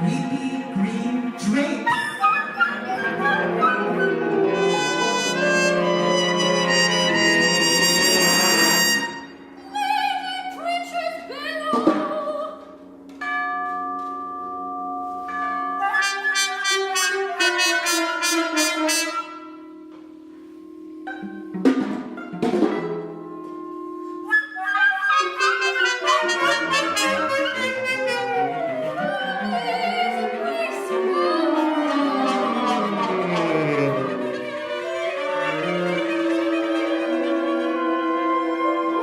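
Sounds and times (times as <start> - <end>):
chamber ensemble playing: 0.0 - 11.2, 12.9 - 39.0.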